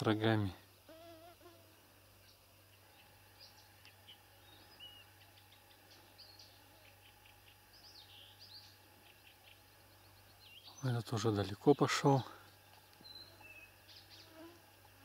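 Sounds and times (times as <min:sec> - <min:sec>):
low steady hum: 0:00.0 - 0:15.0
faint bird chirps: 0:00.6 - 0:14.6.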